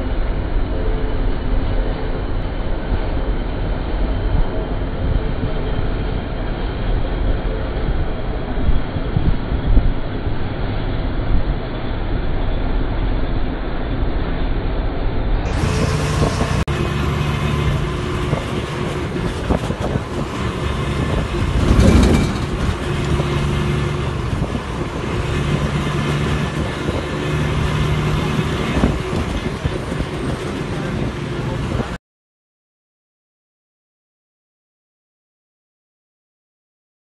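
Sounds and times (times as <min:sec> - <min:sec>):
vehicle engine hum: 0:00.0 - 0:32.0
rushing air: 0:01.8 - 0:32.0.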